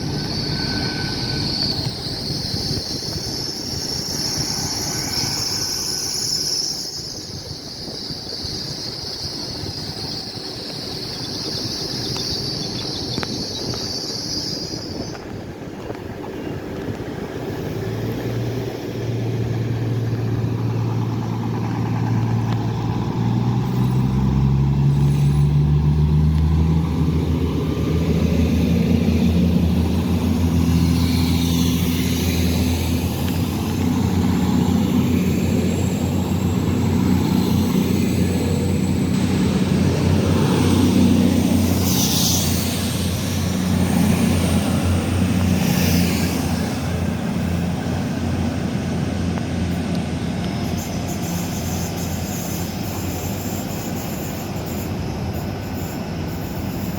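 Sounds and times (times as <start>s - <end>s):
diesel train engine rumbling: 0.0s - 56.9s.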